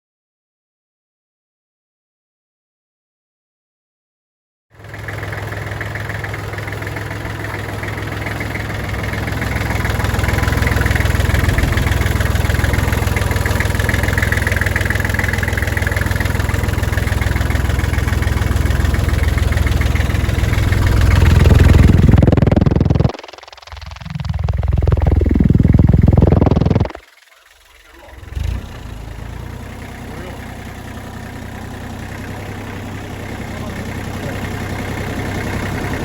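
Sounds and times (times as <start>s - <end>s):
tractor engine idling: 4.8s - 27.0s, 27.6s - 36.0s.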